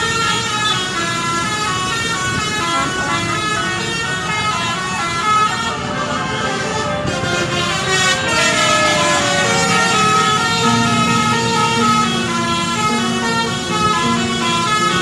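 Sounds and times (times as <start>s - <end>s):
bus horn playing a tune: 0.0s - 15.0s.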